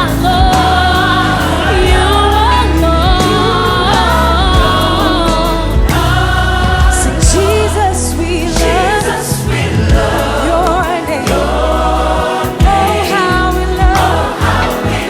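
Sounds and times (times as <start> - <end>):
choir singing gospel song: 0.0 - 15.0
steady bass line: 0.0 - 15.0.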